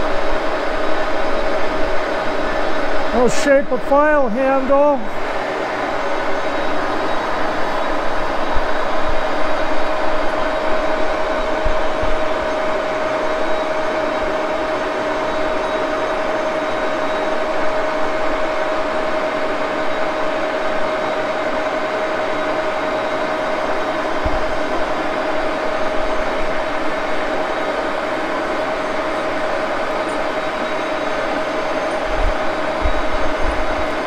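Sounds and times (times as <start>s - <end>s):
lathe whine: 0.0s - 34.0s
mechanical hum: 0.0s - 34.0s.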